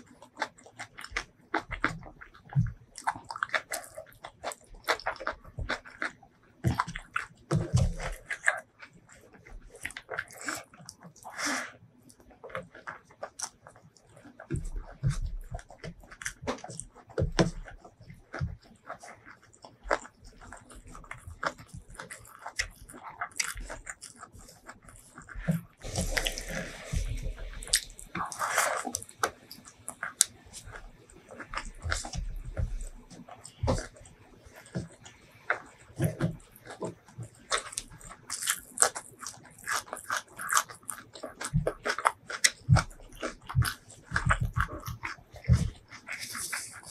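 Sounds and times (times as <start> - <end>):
fingers squishing rice: 0.0 - 46.9
wet chewing: 0.0 - 46.9.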